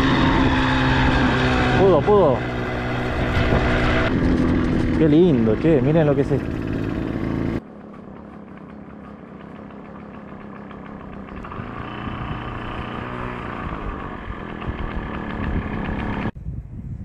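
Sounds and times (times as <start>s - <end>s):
small motorcycle engine running: 0.0s - 16.4s.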